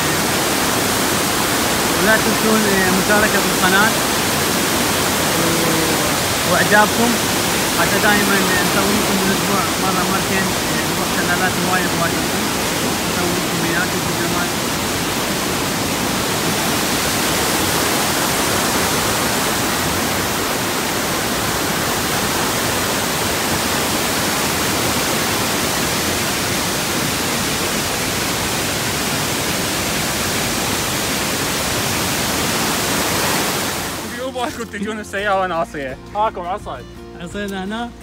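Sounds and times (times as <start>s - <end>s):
river and waterfall rushing: 0.0s - 38.0s.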